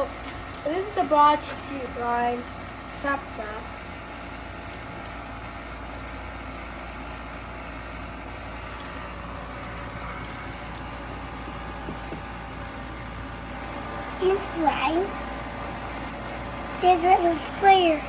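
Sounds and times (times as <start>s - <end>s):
room noise hum and hiss: 0.0s - 18.0s.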